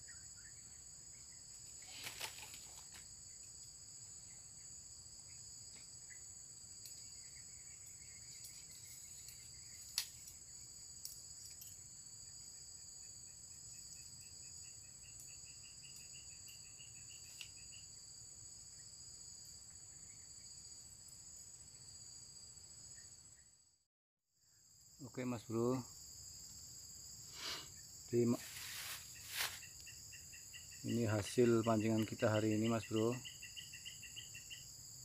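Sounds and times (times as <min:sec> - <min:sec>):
forest insects chorus: 0:00.0 - 0:23.6, 0:24.4 - 0:35.0.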